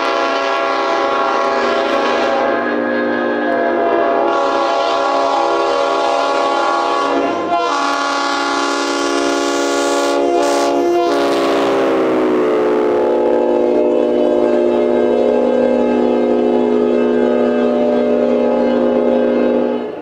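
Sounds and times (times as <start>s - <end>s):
locomotive air horn chords: 0.0s - 20.0s.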